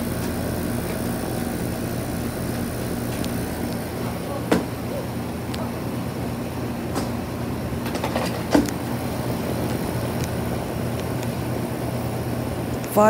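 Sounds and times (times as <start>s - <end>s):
air conditioner unit running: 0.0s - 13.0s.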